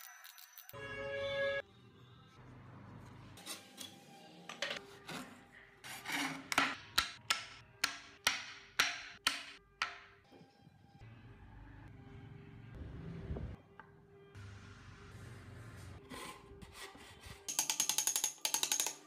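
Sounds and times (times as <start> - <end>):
faint background music: 0.0 - 19.0.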